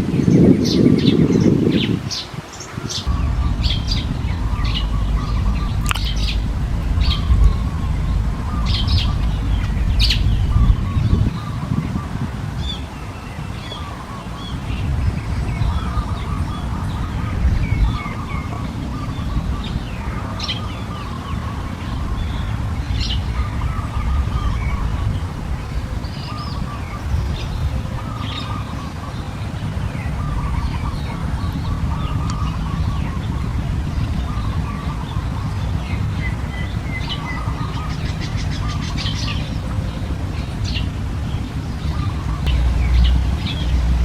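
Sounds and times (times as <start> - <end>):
bird chirping and calling: 0.1 - 44.0
low rumble: 3.0 - 44.0.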